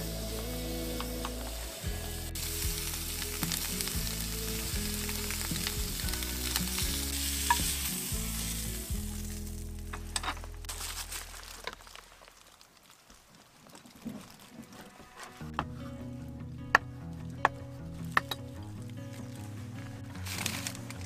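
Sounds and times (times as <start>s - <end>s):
food sizzling and crackling: 0.0s - 15.6s, 17.0s - 21.0s.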